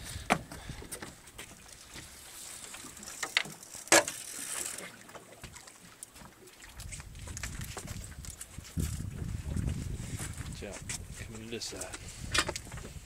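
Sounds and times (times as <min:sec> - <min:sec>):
water and wind wash: 0:00.0 - 0:13.0.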